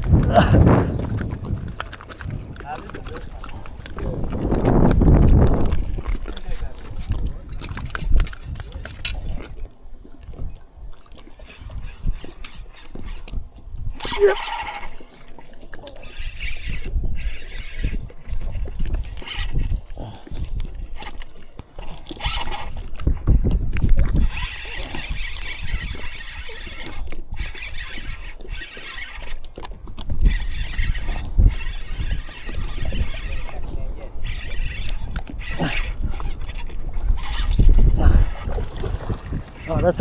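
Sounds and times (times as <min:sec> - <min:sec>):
fishing reel cranking: 0:00.0 - 0:09.3, 0:11.3 - 0:23.0, 0:24.2 - 0:38.6.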